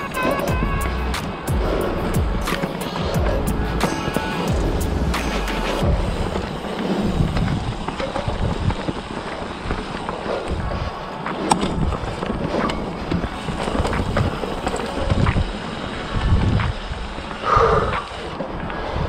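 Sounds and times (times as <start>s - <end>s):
bike clicks and rattles: 0.0s - 19.0s
bike tyres on dirt and leaves: 0.0s - 19.0s
wind buffeting microphone: 0.0s - 19.0s.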